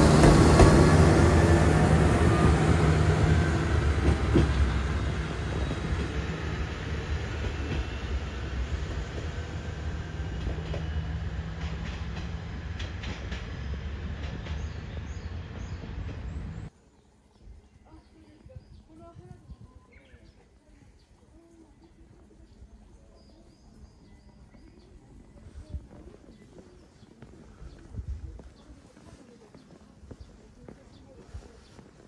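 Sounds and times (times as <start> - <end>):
railcar engine and wheel hum: 0.0 - 32.0.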